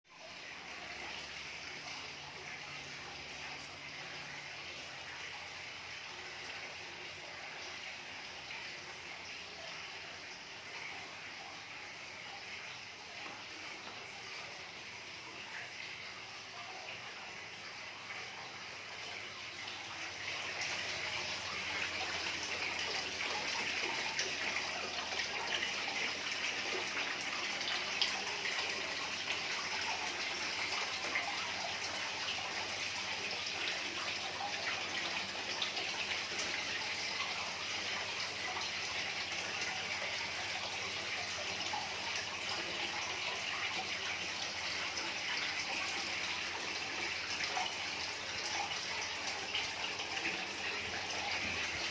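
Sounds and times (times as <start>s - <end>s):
running water: 0.1s - 51.9s.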